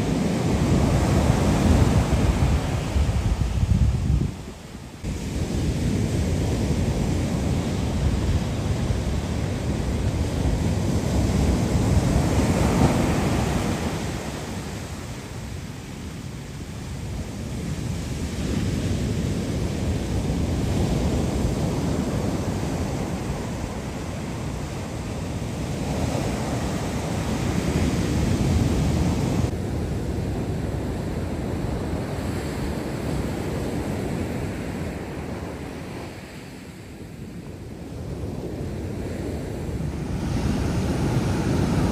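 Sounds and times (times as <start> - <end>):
surf breaking on beach: 0.0 - 41.9
wind buffeting microphone: 0.0 - 41.9.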